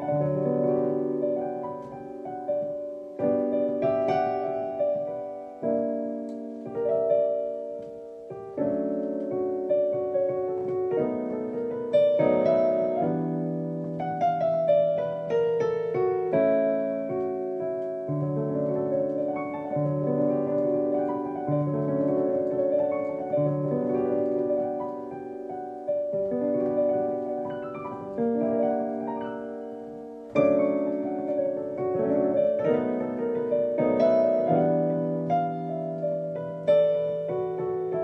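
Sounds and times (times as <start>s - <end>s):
piano chords and melody: 0.0s - 38.0s.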